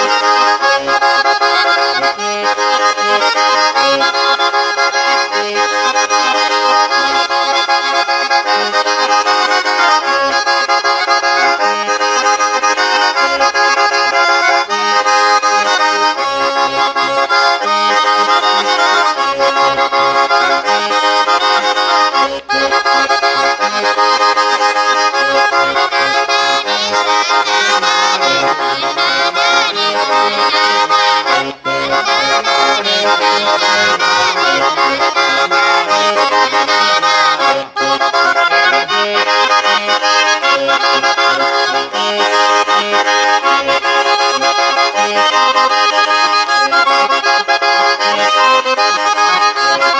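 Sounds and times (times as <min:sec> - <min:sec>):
button accordion playing dance tune: 0:00.0 - 0:49.9.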